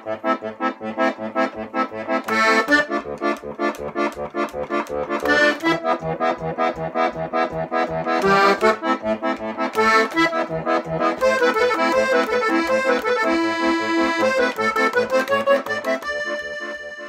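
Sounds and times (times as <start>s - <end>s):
steady bass beat: 0.0s - 15.6s
lively accordion tune: 0.0s - 17.0s.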